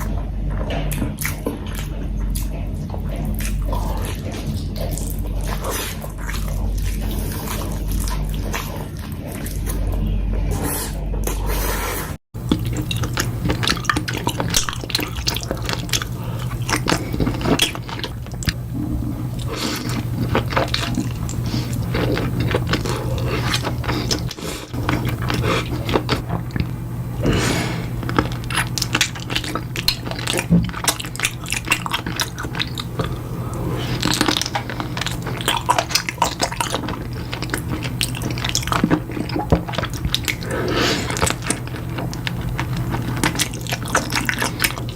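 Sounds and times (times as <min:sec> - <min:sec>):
wet chewing and smacking: 0:00.0 - 0:10.2, 0:12.4 - 0:44.9
low hum: 0:00.0 - 0:44.9.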